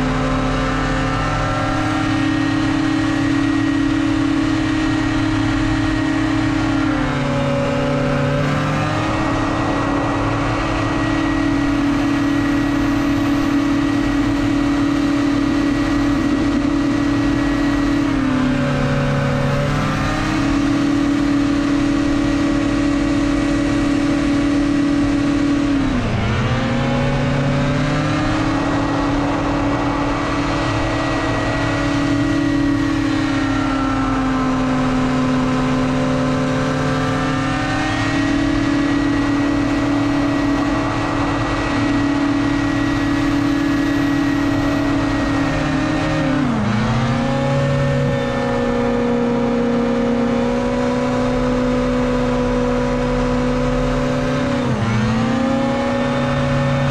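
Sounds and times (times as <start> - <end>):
hovercraft engine at high revs: 0.0 - 56.9.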